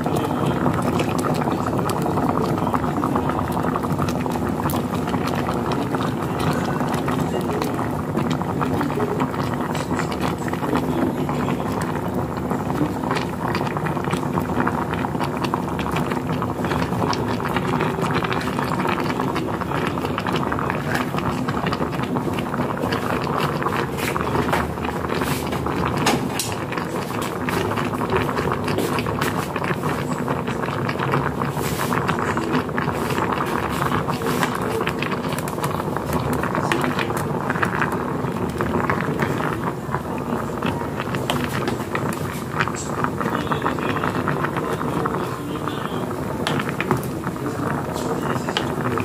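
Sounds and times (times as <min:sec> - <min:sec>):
pot boiling and bubbling: 0:00.0 - 0:49.0.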